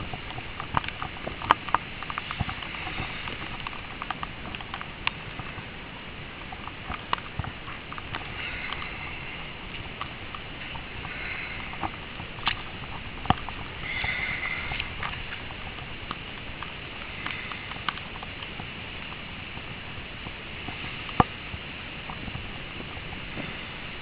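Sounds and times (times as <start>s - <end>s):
pattering drips: 0.0s - 24.0s
steady background wash: 0.0s - 24.0s
wet snow and slush falling: 0.0s - 24.0s.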